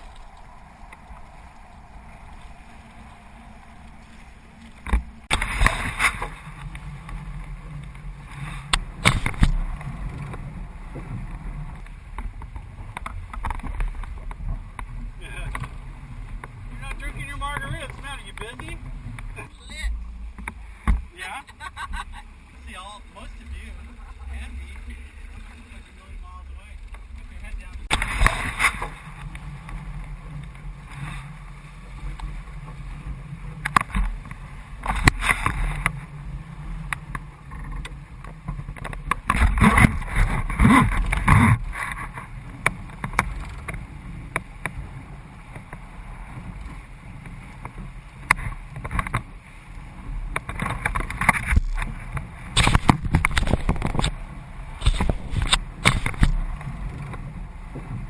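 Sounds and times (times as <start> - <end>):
low rumble of moving water: 0.0 - 58.0
water splashing around kayak: 0.0 - 58.0.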